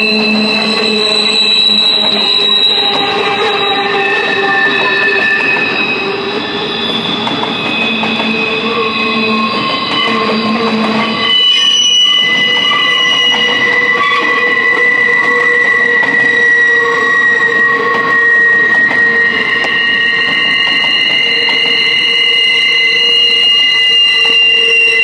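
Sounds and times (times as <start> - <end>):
wheels squealing on rails: 0.0 - 25.0.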